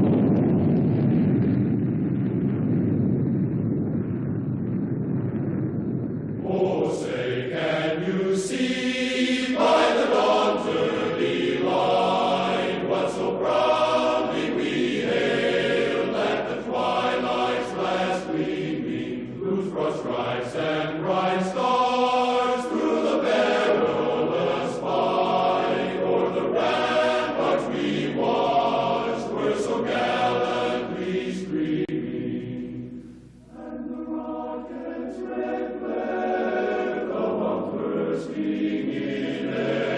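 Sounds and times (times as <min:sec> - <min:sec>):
choir singing slow anthem: 0:06.4 - 0:39.9.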